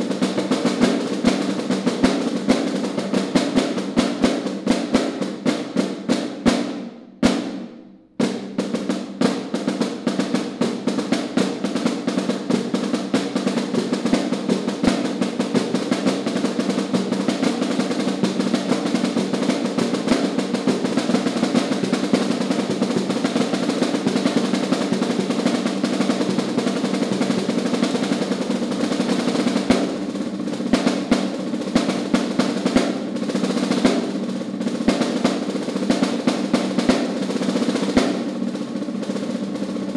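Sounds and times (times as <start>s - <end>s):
snare drum roll: 0.0s - 39.9s.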